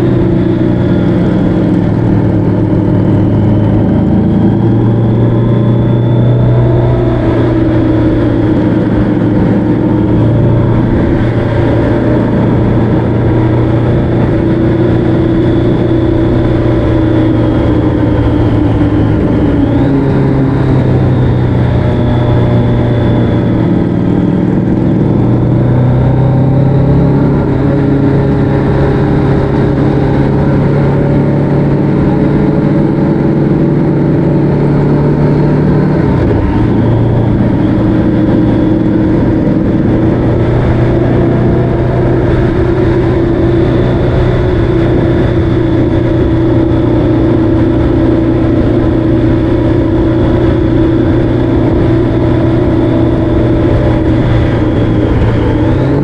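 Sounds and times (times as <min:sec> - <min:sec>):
road rumble: 0:00.0 - 0:56.0
vehicle engine running: 0:00.0 - 0:56.0
wind: 0:00.0 - 0:56.0.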